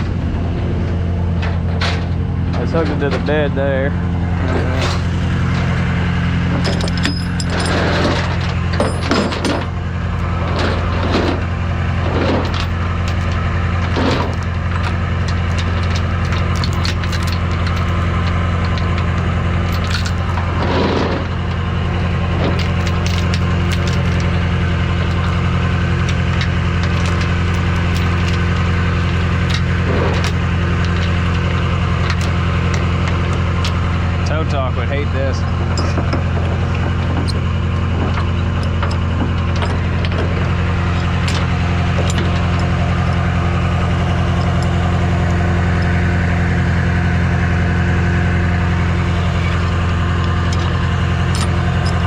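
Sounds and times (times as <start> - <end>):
metal chains clanking: 0.0 - 46.8, 48.9 - 52.0
tow truck engine idling: 0.0 - 52.0.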